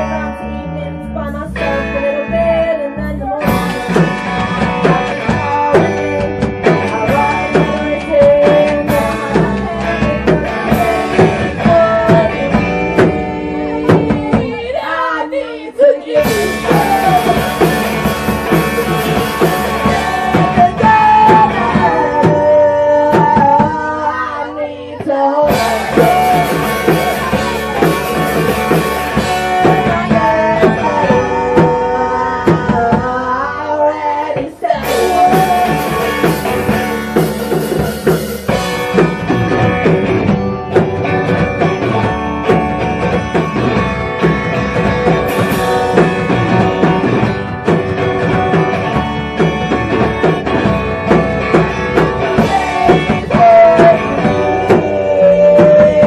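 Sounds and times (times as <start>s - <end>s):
bass guitar: 0.0s - 56.0s
electric guitar: 0.0s - 56.0s
person singing: 0.0s - 56.0s
drum kit: 3.4s - 15.0s, 16.1s - 56.0s.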